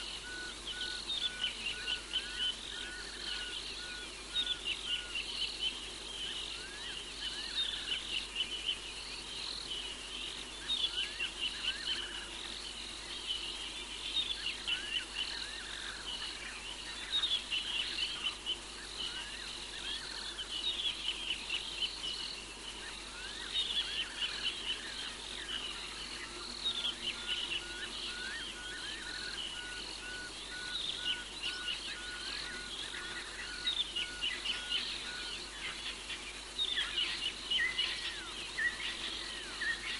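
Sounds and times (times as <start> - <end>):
frogs and insects chirping: 0.0 - 39.9.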